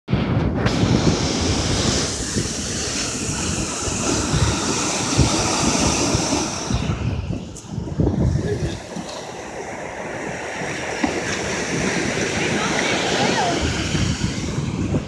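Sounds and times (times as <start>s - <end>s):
surf breaking on beach: 0.1s - 15.0s
wind buffeting microphone: 0.1s - 15.0s.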